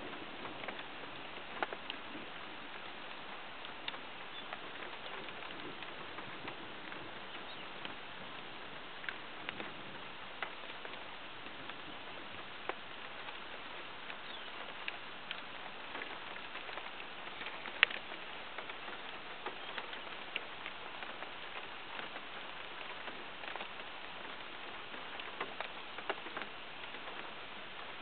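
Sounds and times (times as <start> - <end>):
rain hissing: 0.0 - 28.0
raindrops ticking: 0.0 - 28.0.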